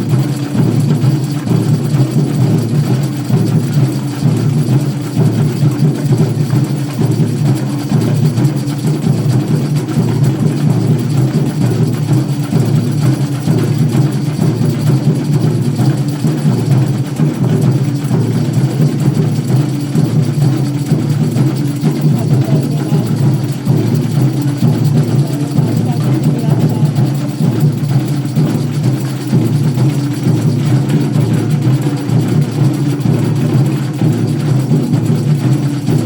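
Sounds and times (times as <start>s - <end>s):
drums and percussion: 0.0s - 36.0s.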